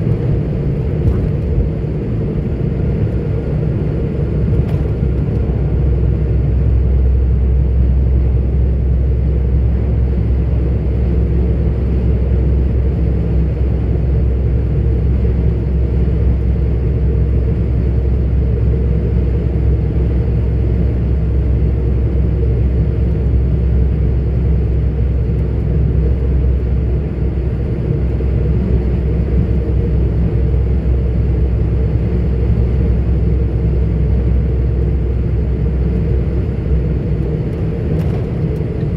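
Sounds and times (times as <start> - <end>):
road rumble: 0.0 - 38.9
truck diesel engine droning: 0.0 - 38.9.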